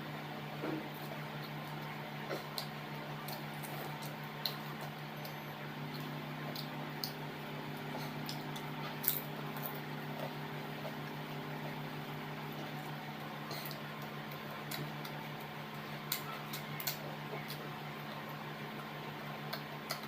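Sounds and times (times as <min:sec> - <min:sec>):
steady low hum: 0:00.0 - 0:20.0
wet chewing clicks and smacks: 0:00.7 - 0:20.0.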